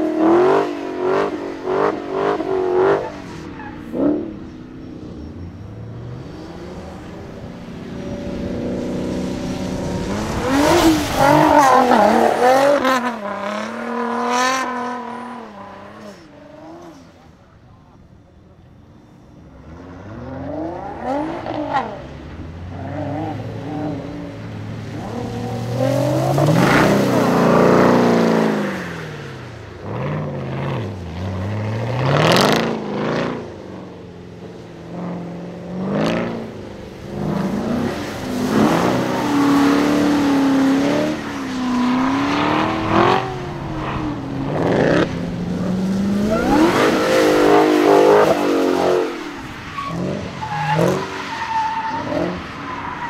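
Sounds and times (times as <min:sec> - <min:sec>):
sports car engines revving: 0:00.0 - 0:53.0.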